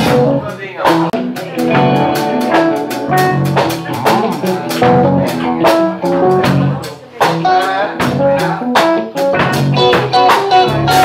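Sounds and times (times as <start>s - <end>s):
bass guitar: 0.0s - 11.0s
drum kit beat: 0.0s - 11.0s
electric guitars: 0.0s - 11.0s.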